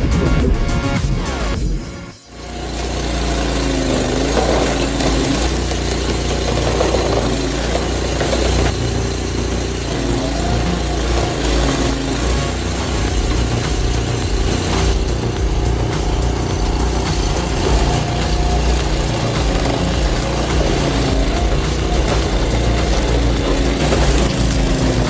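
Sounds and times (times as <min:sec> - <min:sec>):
diesel engine running under load: 0:02.4 - 0:25.0.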